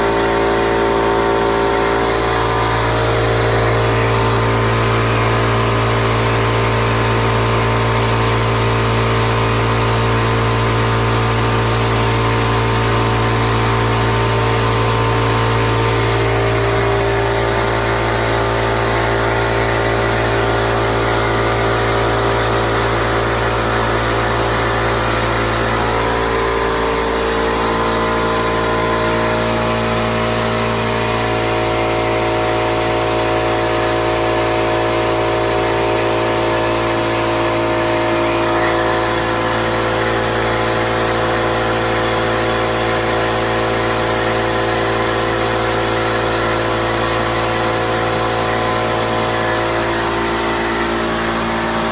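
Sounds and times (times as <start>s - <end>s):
air motor droning: 0.0s - 51.9s
spray gun hissing: 0.0s - 51.9s.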